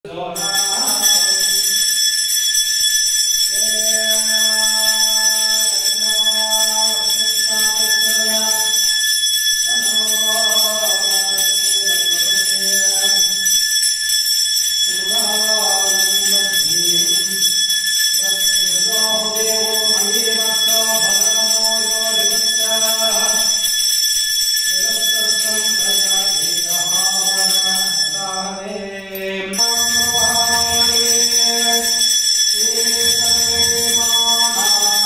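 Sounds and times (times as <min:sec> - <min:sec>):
voices chanting: 0:00.1 - 0:01.8, 0:03.5 - 0:08.9, 0:09.7 - 0:13.5, 0:14.8 - 0:23.7, 0:24.7 - 0:35.0
high-pitched bell ringing: 0:00.3 - 0:35.0.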